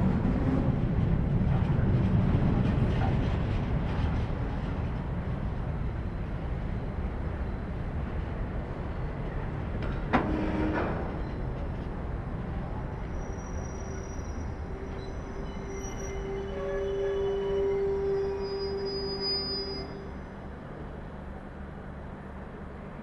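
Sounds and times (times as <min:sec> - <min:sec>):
freight train rumbling: 0:00.0 - 0:23.0.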